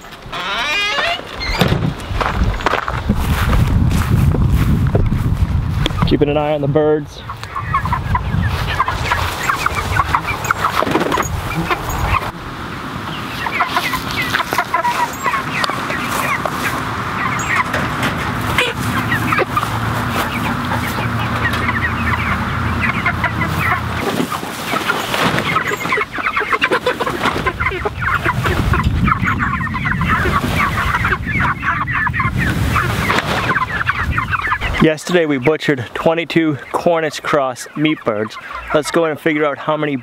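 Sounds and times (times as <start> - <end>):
chickens clucking: 0.0 - 40.0.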